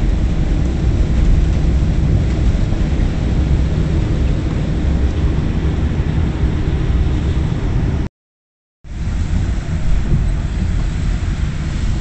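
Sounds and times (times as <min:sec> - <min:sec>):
heavy rain on vehicle cabin: 0:00.0 - 0:08.1, 0:08.9 - 0:12.0.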